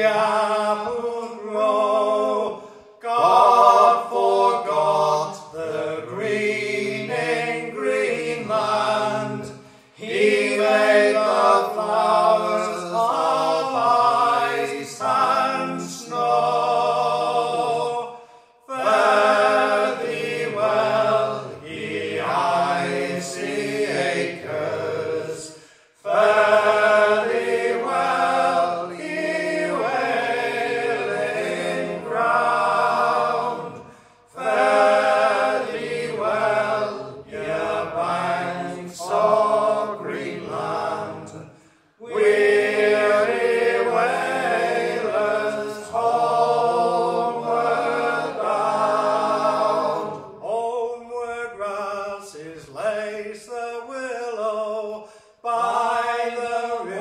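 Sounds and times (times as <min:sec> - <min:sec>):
male trio singing in harmony: 0:00.0 - 0:57.0.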